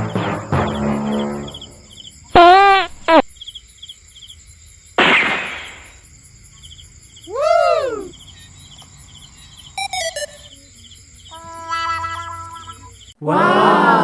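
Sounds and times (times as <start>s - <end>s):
crickets chirping: 0.0s - 13.2s.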